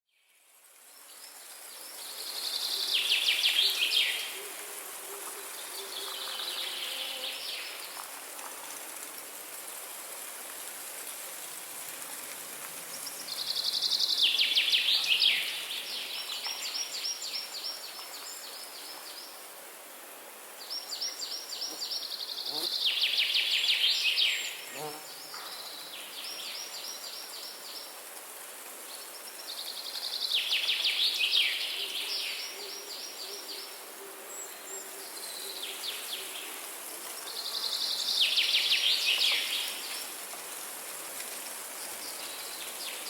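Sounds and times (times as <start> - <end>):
faint high hiss: 0.1 - 43.0.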